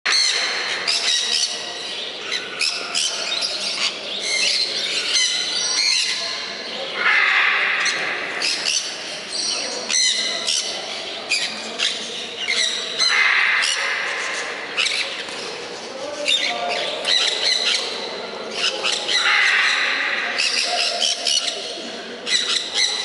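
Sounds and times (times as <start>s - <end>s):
parrots squawking: 0.1s - 6.2s, 6.9s - 15.2s, 16.3s - 21.6s, 22.2s - 23.0s.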